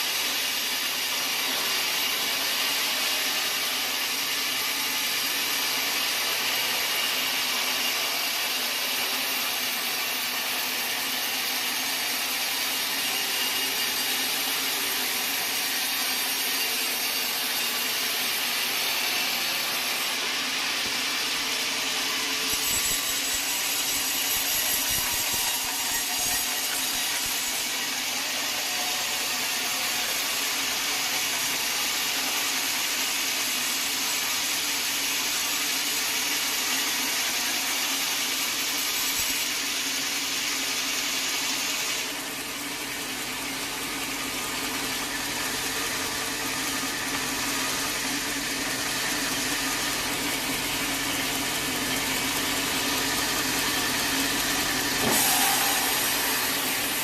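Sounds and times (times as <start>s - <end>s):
saw cutting through log: 0.0s - 57.0s.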